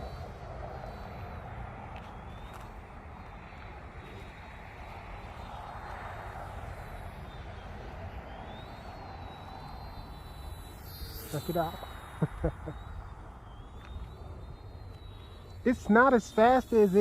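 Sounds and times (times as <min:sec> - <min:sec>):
toy helicopter motor whine: 0:00.0 - 0:17.0.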